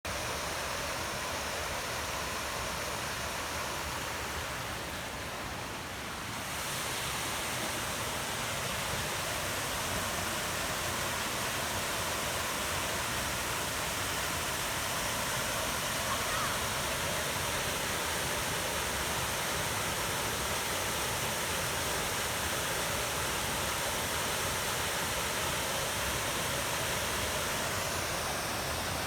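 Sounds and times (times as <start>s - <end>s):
waterfall pouring into pool: 0.1s - 29.0s.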